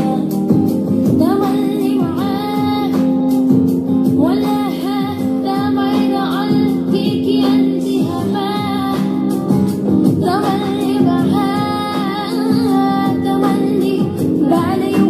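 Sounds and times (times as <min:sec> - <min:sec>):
woman singing song: 0:00.0 - 0:15.0.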